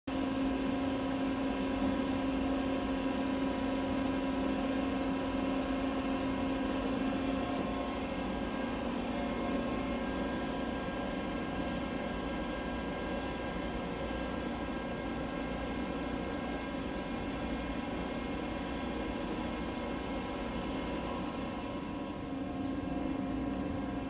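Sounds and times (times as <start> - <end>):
mechanical hum: 0.1 - 24.0.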